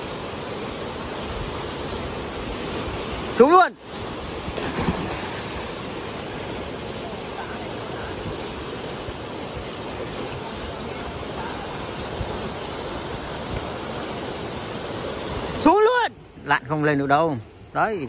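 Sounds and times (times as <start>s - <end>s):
stream rushing over rocks: 0.0s - 17.3s.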